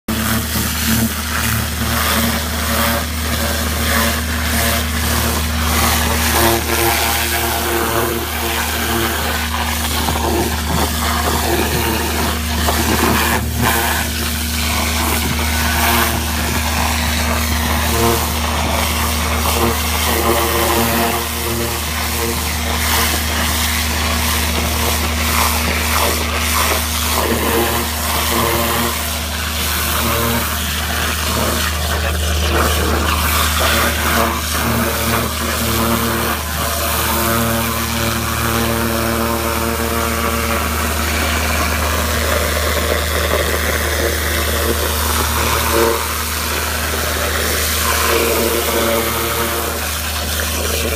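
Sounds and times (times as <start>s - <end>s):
vacuum excavator droning: 0.1s - 50.9s.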